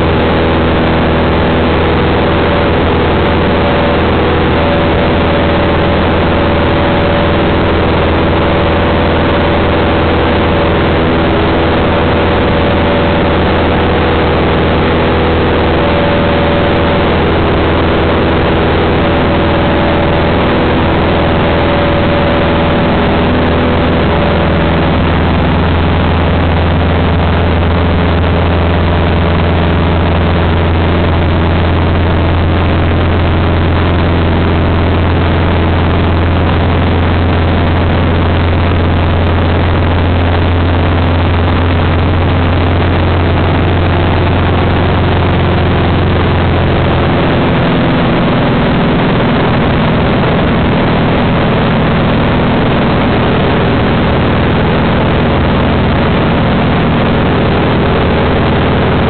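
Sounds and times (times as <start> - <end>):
aircraft engine drone: 0.0 - 59.0.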